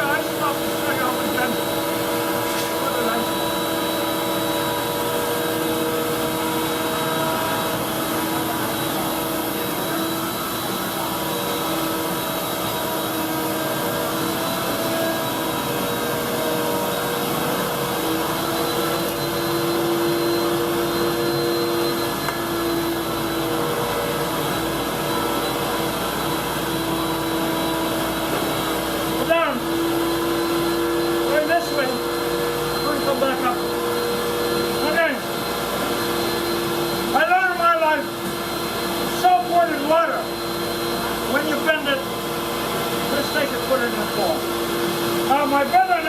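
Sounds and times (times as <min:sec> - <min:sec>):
woodworking machinery whirring: 0:00.0 - 0:46.0.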